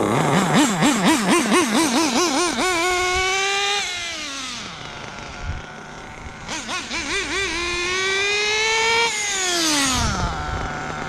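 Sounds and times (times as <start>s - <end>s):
model car engine revving: 0.0s - 11.0s.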